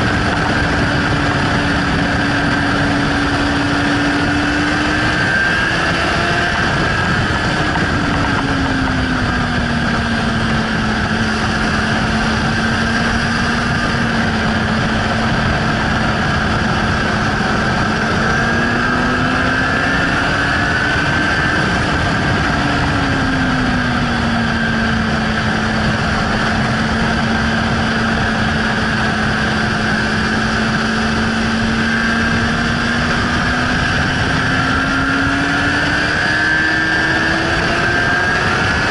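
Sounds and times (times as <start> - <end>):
motorcycle engine running hard: 0.0 - 38.9
wind noise: 0.0 - 38.9.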